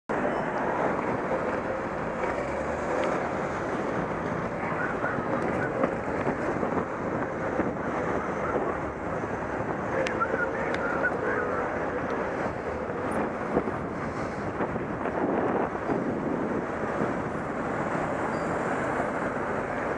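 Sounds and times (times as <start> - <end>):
street traffic: 0.1 - 19.9
wind on microphone: 3.0 - 19.9.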